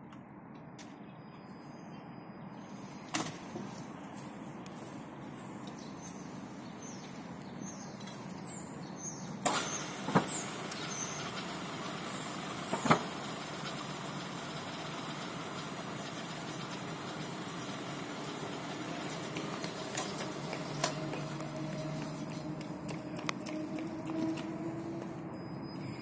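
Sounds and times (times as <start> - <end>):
tram humming: 2.6 - 26.0
birds chirping: 4.9 - 26.0.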